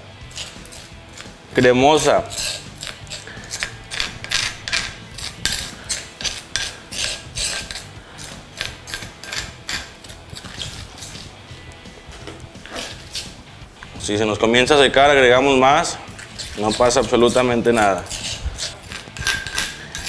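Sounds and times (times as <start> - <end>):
spoon scraping stone bowl: 0.0 - 13.9, 15.8 - 20.0.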